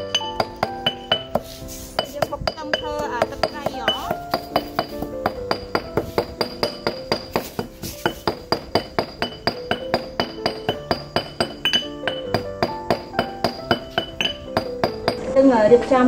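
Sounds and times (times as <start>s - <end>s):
bright piano-like notes: 0.0s - 16.0s.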